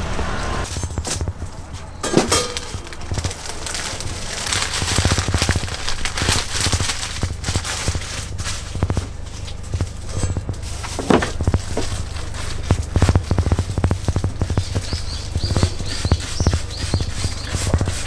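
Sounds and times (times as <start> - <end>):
steady low hum: 0.0 - 18.0
utensils clicking and tapping: 0.0 - 18.0.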